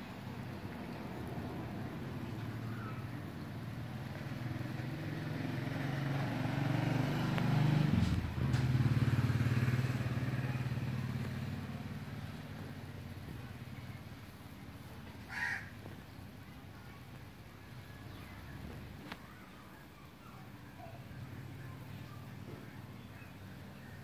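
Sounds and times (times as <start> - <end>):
motor vehicle engine running: 0.0 - 24.0.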